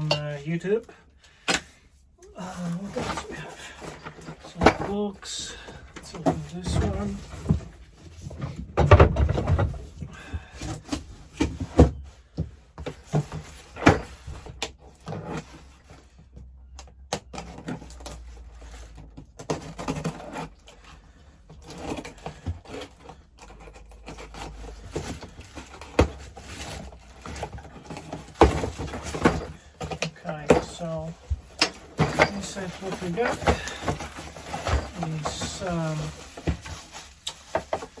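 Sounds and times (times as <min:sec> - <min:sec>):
cardboard rustling: 0:02.3 - 0:12.1, 0:17.4 - 0:38.0.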